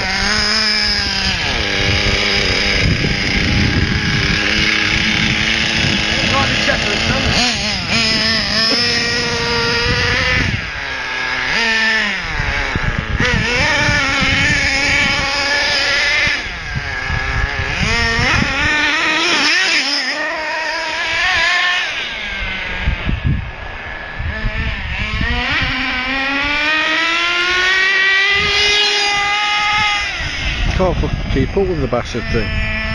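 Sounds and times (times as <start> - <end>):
small nitro engine revving: 0.0 - 32.9.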